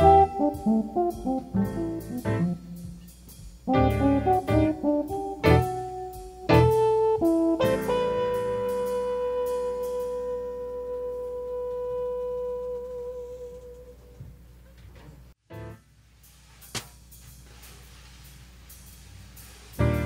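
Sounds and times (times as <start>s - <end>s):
jazz music: 0.0s - 14.6s, 15.4s - 20.0s.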